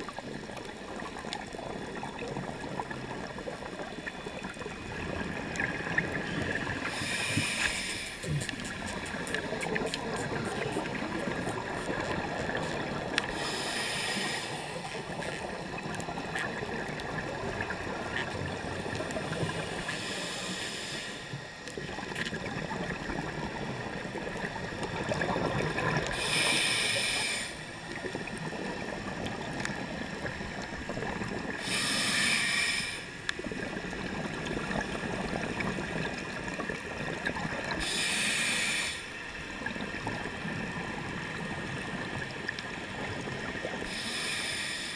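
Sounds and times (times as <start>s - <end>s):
hissing regulator breaths with bubbles: 0.0s - 40.5s, 41.3s - 44.9s
underwater rumble: 0.0s - 44.8s.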